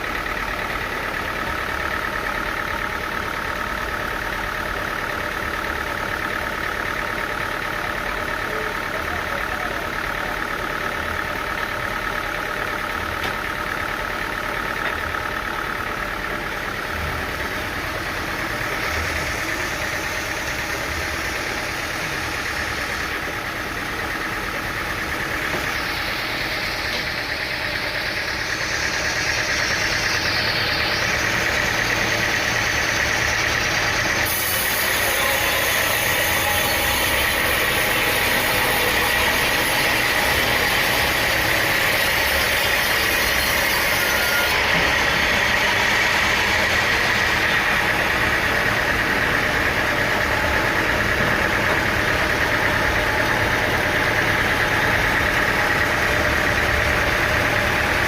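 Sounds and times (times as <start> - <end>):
constant high whine: 0.0 - 58.0
sawmill engine drone: 0.0 - 58.0.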